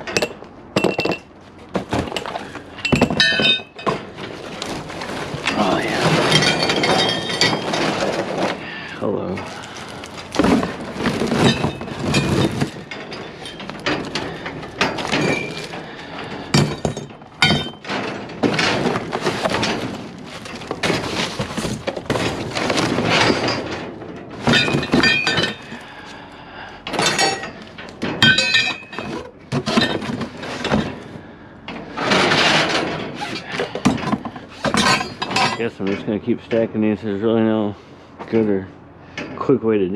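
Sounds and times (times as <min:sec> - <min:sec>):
scrap metal clanking and scraping: 0:00.0 - 0:39.6.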